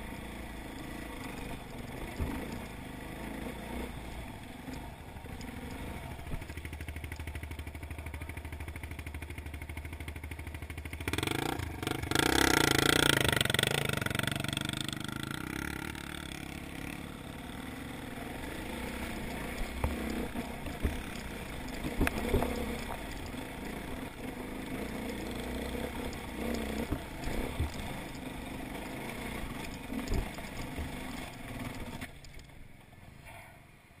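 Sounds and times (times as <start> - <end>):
dirt bike engine at low revs: 0.0 - 33.9.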